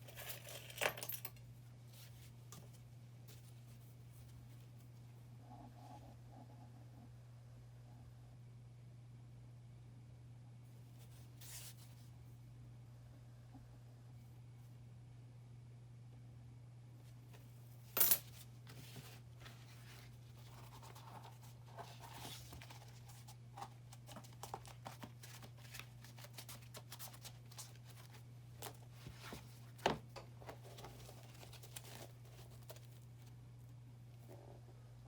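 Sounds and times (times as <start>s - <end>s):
steady low hum: 1.1s - 35.0s.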